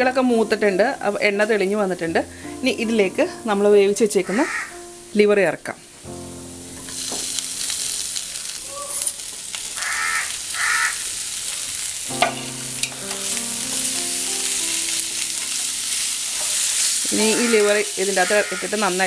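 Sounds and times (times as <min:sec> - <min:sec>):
liver sizzling in hot oil: 0:00.0 - 0:19.0.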